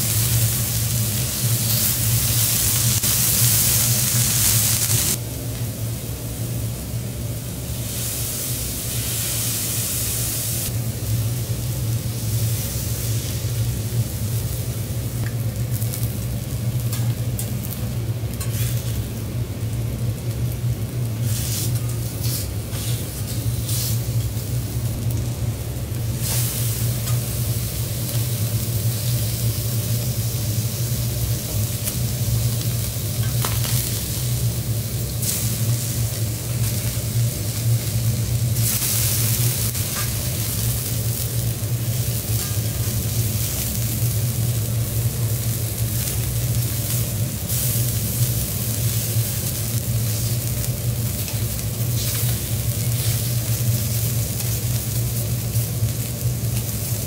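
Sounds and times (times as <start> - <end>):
seafood sizzling on griddle: 0.0 - 57.0
steady low hum: 0.0 - 57.0.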